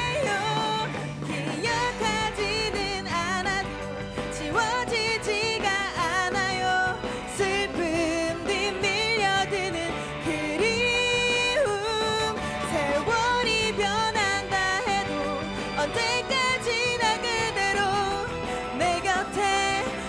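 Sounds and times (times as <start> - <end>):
band accompaniment: 0.0 - 20.0
woman singing into microphone: 0.0 - 20.0.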